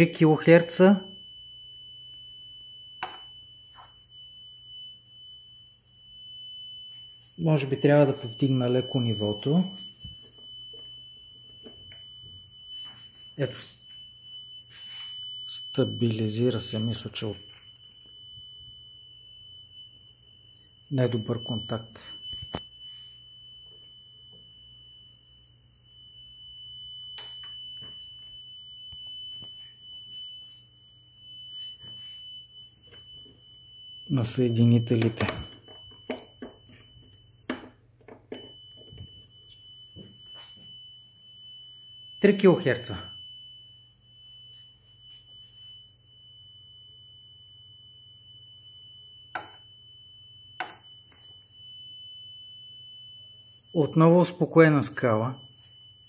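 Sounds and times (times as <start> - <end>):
low mains hum: 0.0 - 56.0
steady sine test tone: 0.0 - 56.0.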